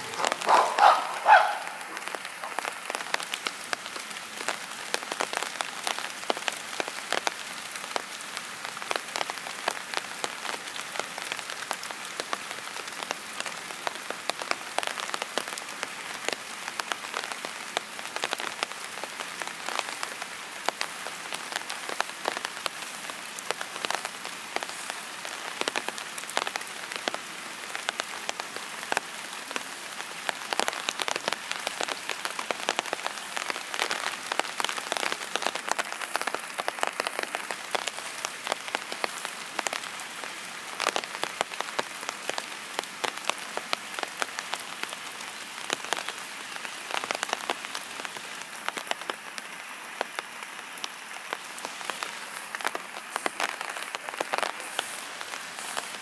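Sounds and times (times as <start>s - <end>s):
raindrops tapping on a surface: 0.0s - 56.0s
steady rain: 0.0s - 56.0s.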